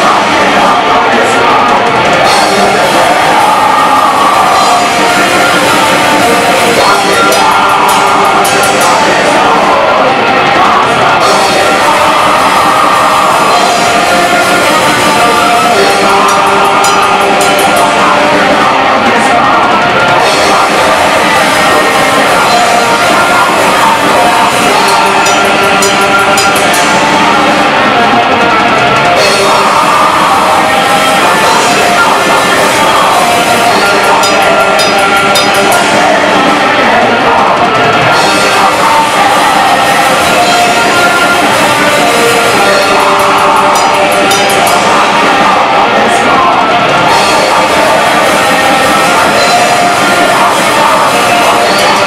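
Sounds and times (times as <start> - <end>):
distorted electric guitars: 0.0 - 52.0
drum kit with cymbal strikes: 0.0 - 52.0
metal band playing live: 0.0 - 52.0.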